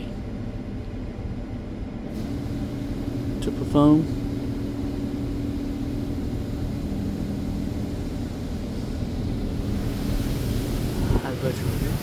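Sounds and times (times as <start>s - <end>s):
car wash mechanical hum: 0.0s - 12.0s.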